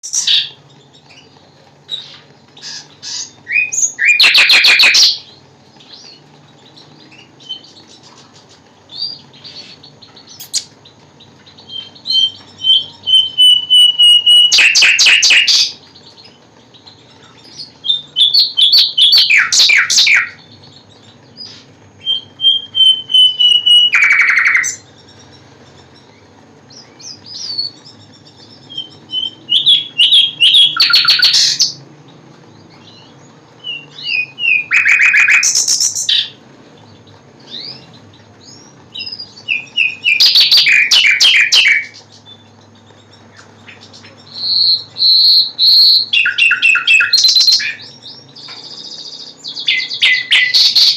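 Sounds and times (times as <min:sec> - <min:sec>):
nightingale singing: 0:00.0 - 0:50.9.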